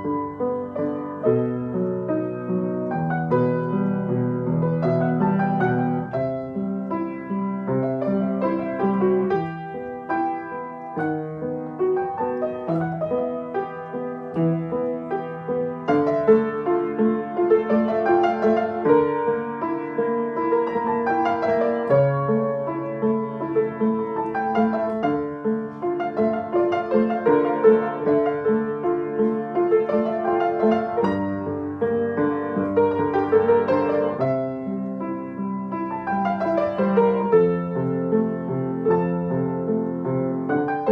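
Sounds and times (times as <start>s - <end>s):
acoustic piano piece: 0.0s - 40.9s.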